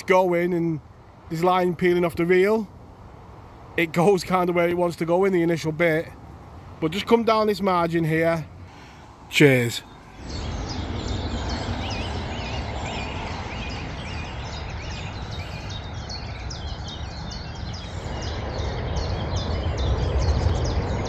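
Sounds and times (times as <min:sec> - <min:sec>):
birds chirping and warbling: 0:00.0 - 0:21.0.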